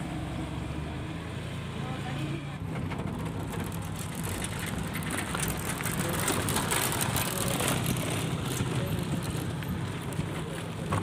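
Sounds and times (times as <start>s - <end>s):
road noise: 0.0s - 11.0s
vehicle engine droning: 0.0s - 11.0s.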